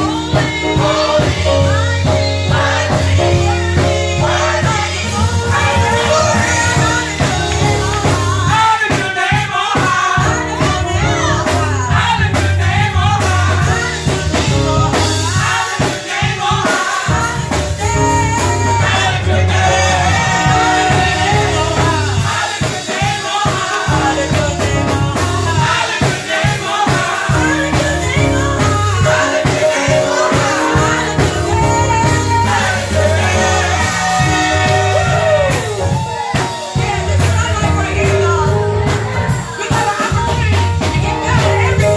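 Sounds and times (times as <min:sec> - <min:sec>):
amplified instrumental backing: 0:00.0 - 0:41.9
group singing worship songs: 0:00.0 - 0:41.9.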